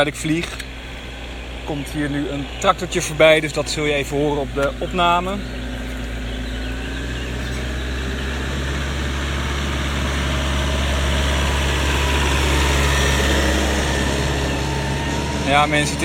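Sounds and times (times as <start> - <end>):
tractor engine driving past: 0.0 - 16.0.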